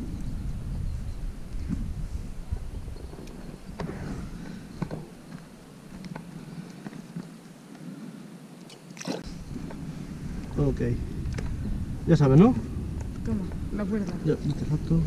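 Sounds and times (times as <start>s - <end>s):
wind rumble on microphone: 0.0s - 6.6s, 9.2s - 15.0s.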